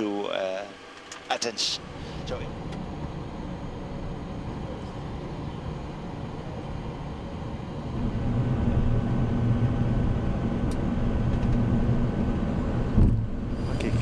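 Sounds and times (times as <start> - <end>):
jet engine and airflow hum: 0.0 - 14.0.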